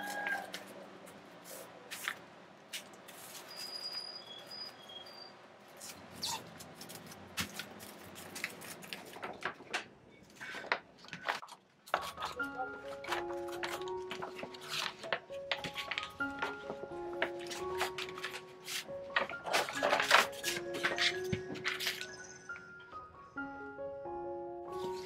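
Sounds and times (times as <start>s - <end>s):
paper rustling: 0.0s - 3.8s, 5.7s - 22.3s.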